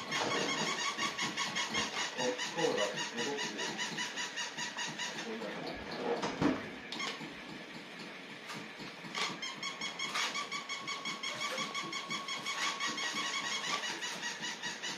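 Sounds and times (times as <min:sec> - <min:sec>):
toy pulsing electronic tone: 0:00.0 - 0:06.0, 0:06.9 - 0:07.3, 0:09.1 - 0:14.9.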